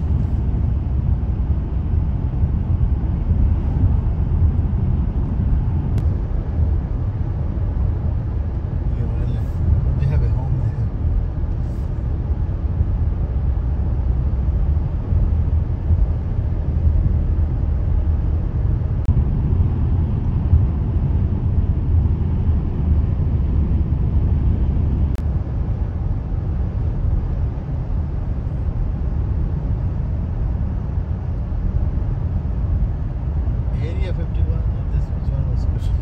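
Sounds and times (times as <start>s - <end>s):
car driving road rumble: 0.0s - 36.0s.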